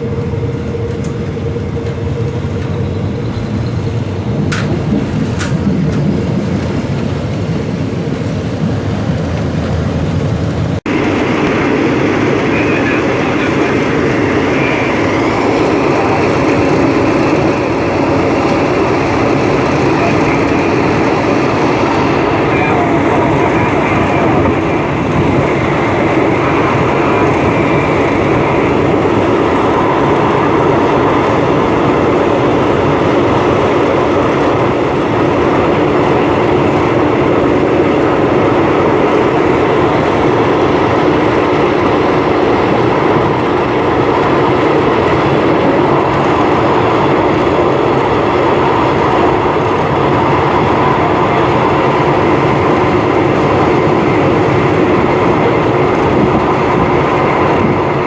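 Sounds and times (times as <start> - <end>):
train wheels rumbling and rattling: 0.0 - 58.0.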